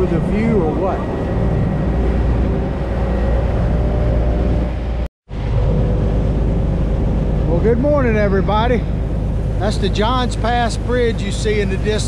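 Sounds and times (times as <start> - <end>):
boat engines drone: 0.0 - 12.0
water noise: 0.0 - 12.0
wind: 0.0 - 12.0.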